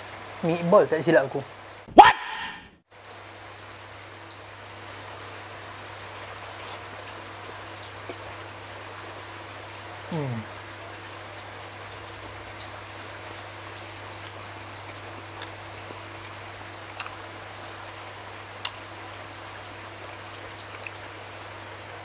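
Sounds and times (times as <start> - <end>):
heavy rain hiss: 0.0 - 2.0, 2.9 - 20.3.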